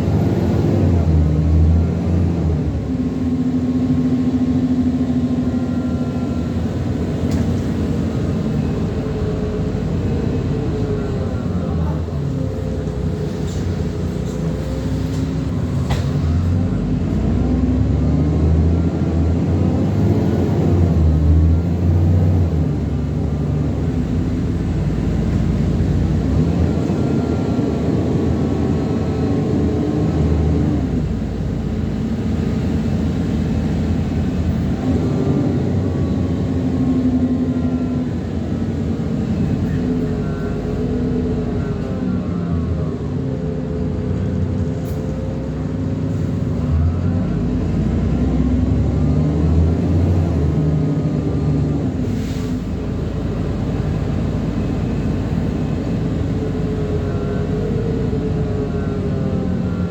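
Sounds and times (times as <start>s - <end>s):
bus engine and gearbox whining: 0.0s - 59.9s.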